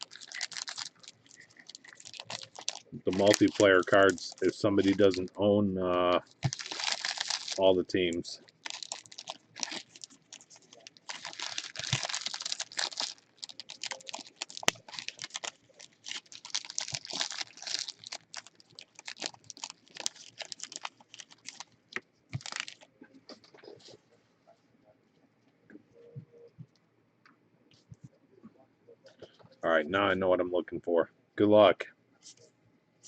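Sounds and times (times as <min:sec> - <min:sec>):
crinkling and rustling: 0:00.0 - 0:26.8.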